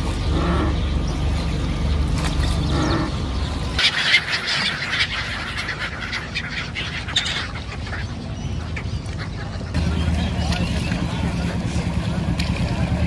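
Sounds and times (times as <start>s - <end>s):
gulls calling: 0.0s - 13.0s
low motor hum: 0.0s - 13.0s.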